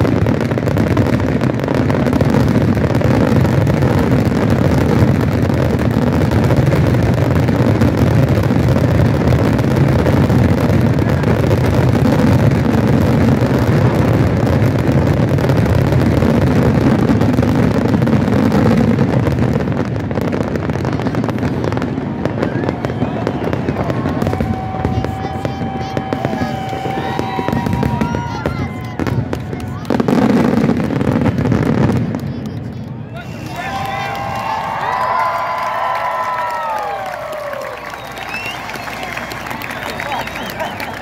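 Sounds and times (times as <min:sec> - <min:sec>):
fireworks bursting rumble: 0:00.0 - 0:41.0.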